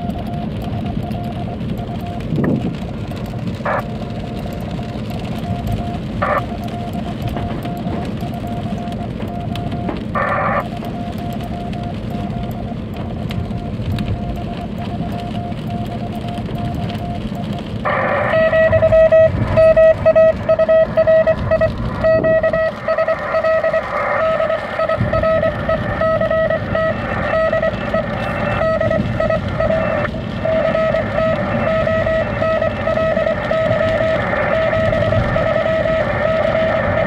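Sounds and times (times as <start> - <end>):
car road noise: 0.0 - 37.0
morse code beeps: 0.0 - 37.0.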